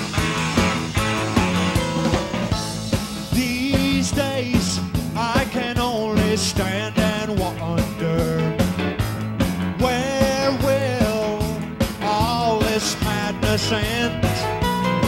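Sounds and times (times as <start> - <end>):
bass: 0.0 - 15.0
live rock band playing: 0.0 - 15.0
steady drum beat: 0.0 - 15.0.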